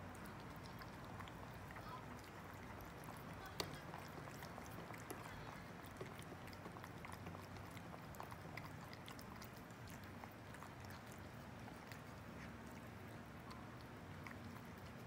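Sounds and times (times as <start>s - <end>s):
cats chewing food: 0.0s - 15.0s.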